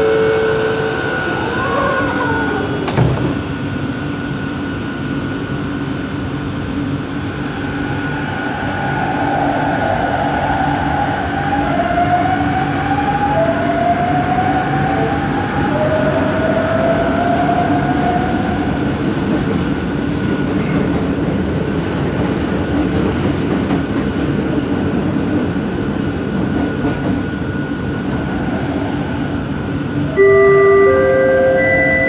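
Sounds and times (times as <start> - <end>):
train rolling rumble: 0.0 - 32.0.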